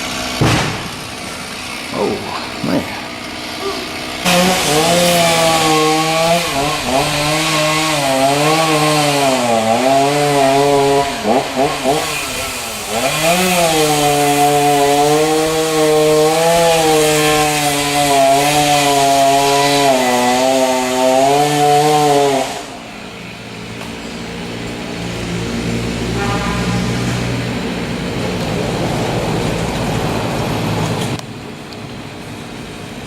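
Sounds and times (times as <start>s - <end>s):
chainsaw cutting wood: 0.0s - 31.2s.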